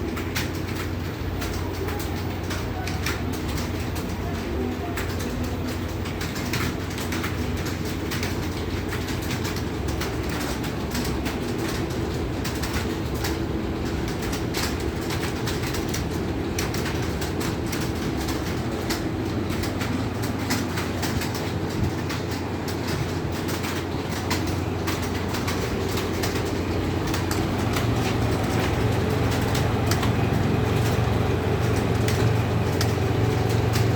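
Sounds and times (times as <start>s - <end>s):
keyboard typing: 0.0s - 33.9s.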